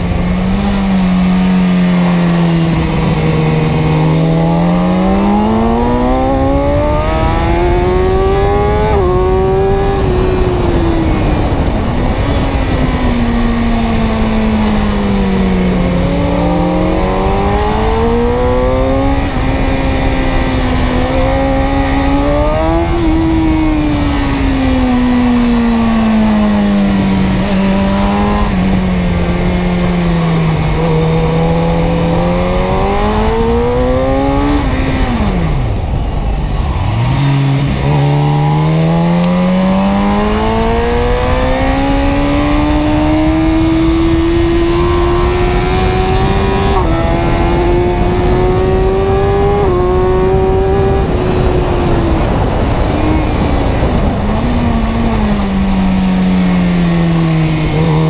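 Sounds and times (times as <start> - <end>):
engine revving up and down: 0.0 - 58.0.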